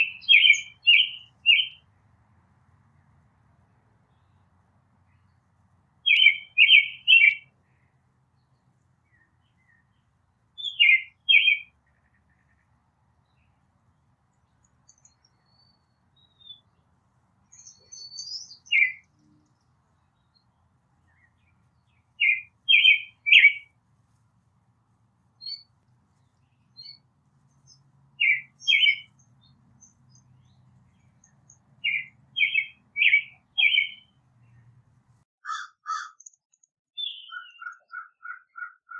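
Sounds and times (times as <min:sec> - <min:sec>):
faint high bird chirps: 0:00.0 - 0:01.9, 0:06.0 - 0:13.6, 0:14.3 - 0:23.8, 0:25.4 - 0:34.8, 0:36.0 - 0:38.9
songbird calling: 0:00.0 - 0:01.9, 0:04.0 - 0:23.8, 0:25.4 - 0:35.1, 0:37.0 - 0:38.2.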